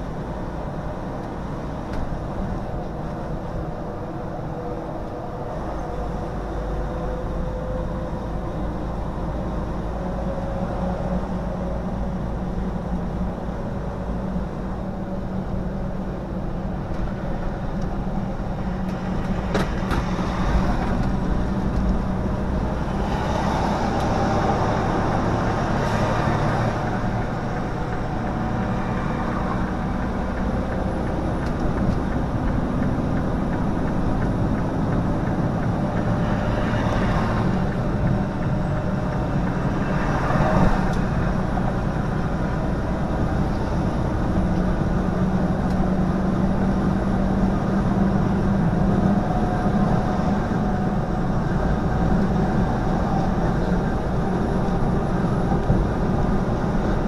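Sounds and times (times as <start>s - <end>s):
truck engine and tyre drone: 0.0s - 57.0s.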